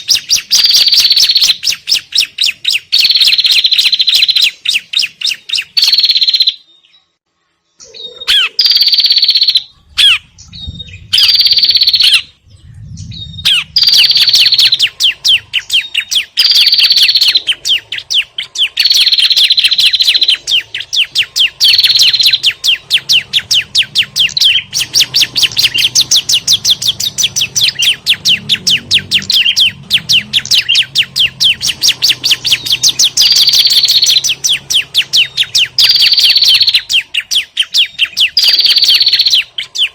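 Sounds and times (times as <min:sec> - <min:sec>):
recorded songbird scolding chatter: 0:00.0 - 0:39.9.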